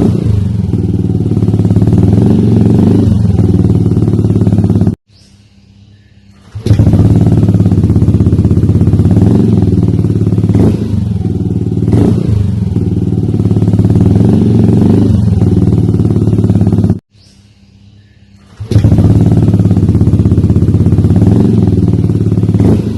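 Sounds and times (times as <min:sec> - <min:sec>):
scooter engine running: 0:00.0 - 0:05.0, 0:06.4 - 0:17.0, 0:18.5 - 0:22.9.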